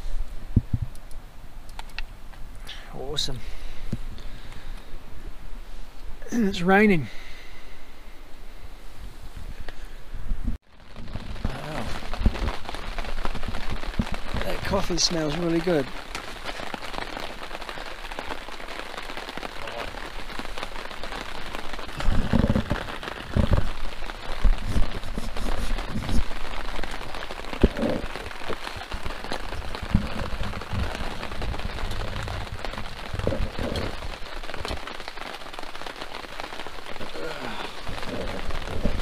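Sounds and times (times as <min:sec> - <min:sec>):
rain on tarp: 0:00.0 - 0:07.8, 0:10.6 - 0:39.0.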